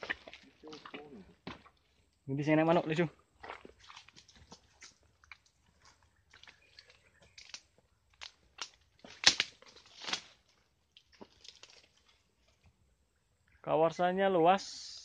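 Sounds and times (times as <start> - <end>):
twigs and leaves crunching: 0.0 - 12.8.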